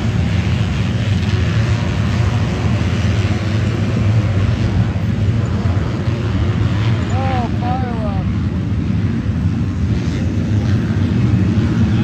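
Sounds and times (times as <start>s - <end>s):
motocross bike engines droning: 0.0s - 12.0s.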